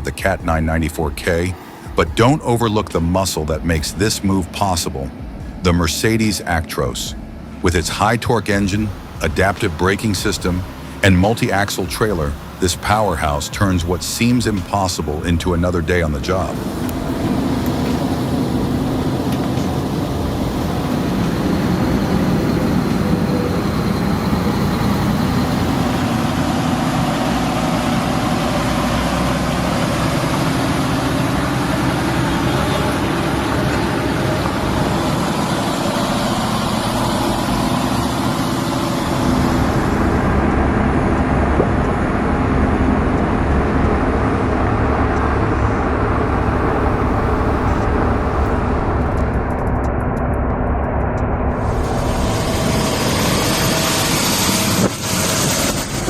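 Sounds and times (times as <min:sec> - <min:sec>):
heavy truck engine running: 0:00.0 - 0:56.0
road noise: 0:00.0 - 0:56.0.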